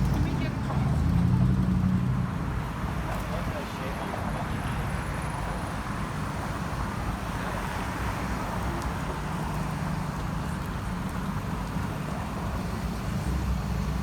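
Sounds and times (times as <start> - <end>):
street traffic passing: 0.0 - 14.0.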